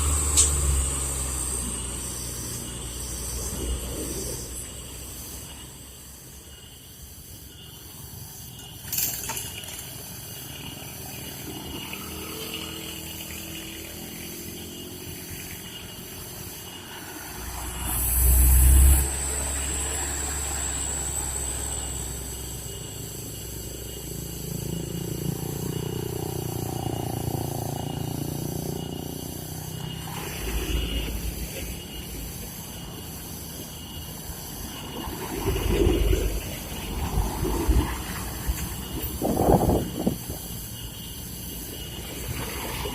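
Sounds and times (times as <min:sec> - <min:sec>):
diesel trucks labouring uphill: 0:00.0 - 0:42.9
thin high whine: 0:00.0 - 0:42.9.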